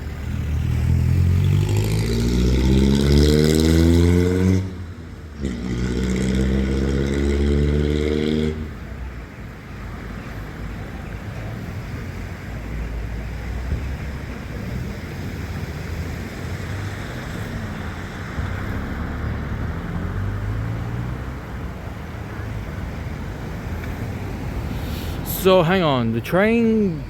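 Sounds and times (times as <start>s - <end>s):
car engines rumbling: 0.0s - 27.0s.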